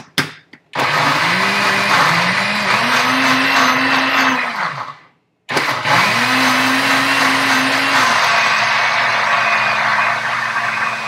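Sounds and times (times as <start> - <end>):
blender motor running: 0.8 - 11.0.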